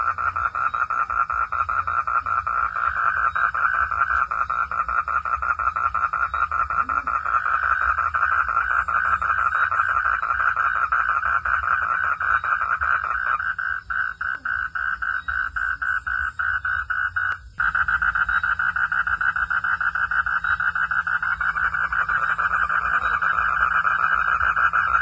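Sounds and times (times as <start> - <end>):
frogs calling in pulsed chorus: 0.0 - 25.0
steady low hum: 0.0 - 25.0.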